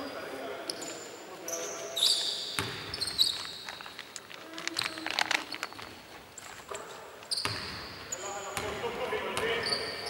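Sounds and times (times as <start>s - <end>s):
sneakers squeaking: 0.0s - 5.0s, 5.7s - 10.0s.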